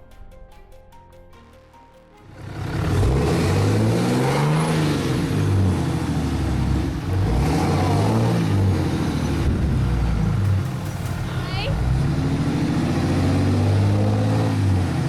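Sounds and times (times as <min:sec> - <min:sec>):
vehicle engine revving: 0:02.3 - 0:15.0
broad rushing noise: 0:02.8 - 0:15.0.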